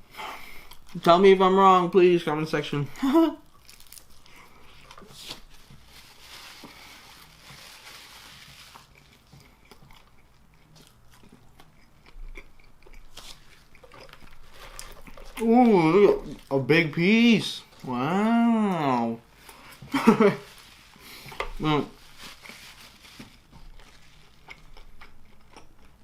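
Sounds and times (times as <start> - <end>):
person chewing crunchy food: 0.3 - 1.0, 3.4 - 16.7, 17.6 - 26.0.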